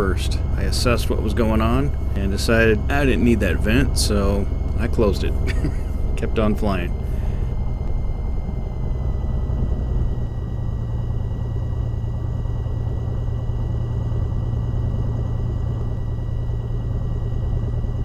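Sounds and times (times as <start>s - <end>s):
aircraft engine drone: 0.0s - 18.0s
thin high whine: 0.0s - 18.0s.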